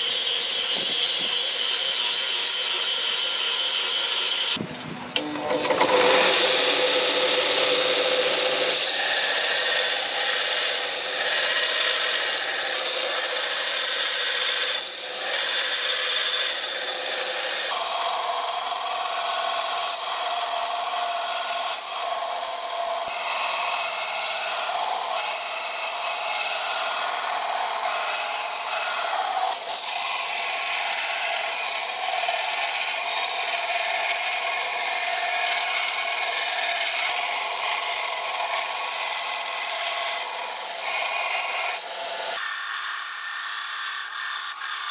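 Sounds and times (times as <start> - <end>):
power grinder grinding steel: 0.0 - 44.9.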